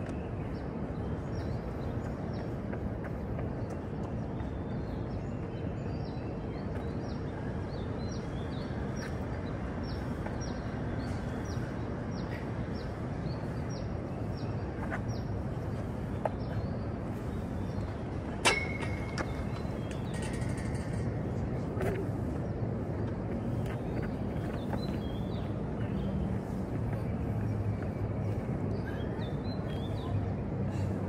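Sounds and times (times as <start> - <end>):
city background hum: 0.0 - 31.0.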